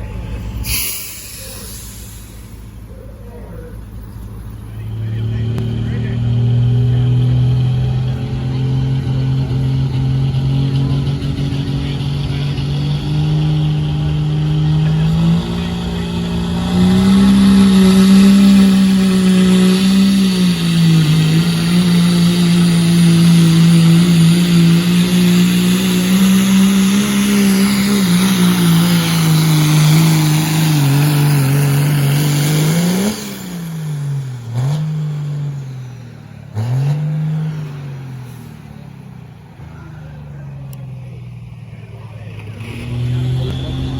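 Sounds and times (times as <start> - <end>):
diesel truck engine revving: 0.0 - 43.9.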